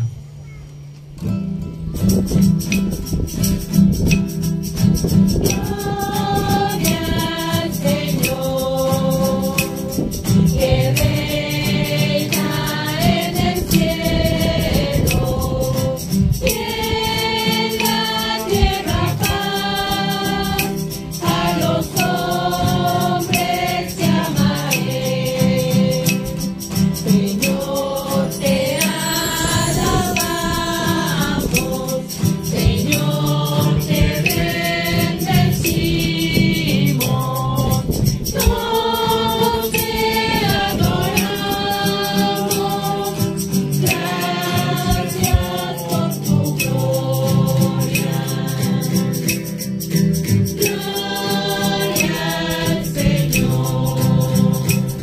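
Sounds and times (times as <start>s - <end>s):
shaken rattles: 1.8s - 55.0s
group singing religious song: 5.3s - 55.0s.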